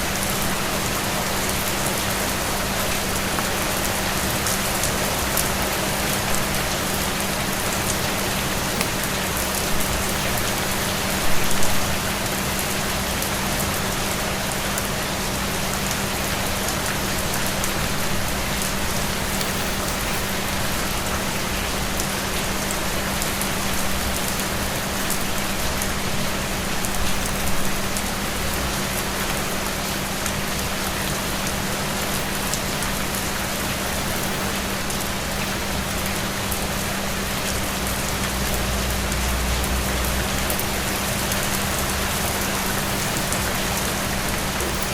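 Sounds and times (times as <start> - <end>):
rain falling on a surface: 0.0 - 44.9.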